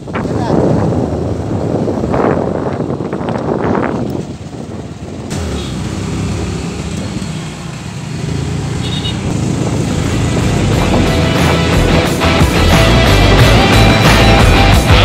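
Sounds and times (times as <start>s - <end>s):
road and wind noise: 0.0s - 15.0s
motorcycle engine running: 0.4s - 15.0s.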